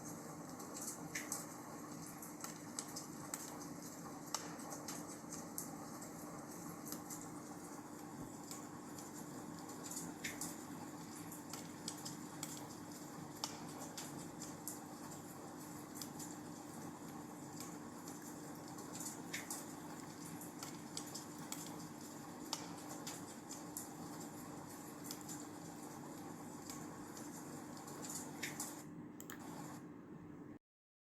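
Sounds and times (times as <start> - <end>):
wood fire crackling: 0.0 - 28.8
faint steady hum: 0.0 - 30.6.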